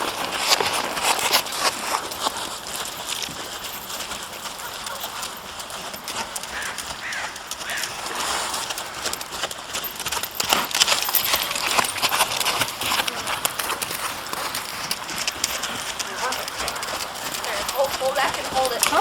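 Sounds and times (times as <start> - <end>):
horse hoofbeats clip-clop: 0.0 - 19.0.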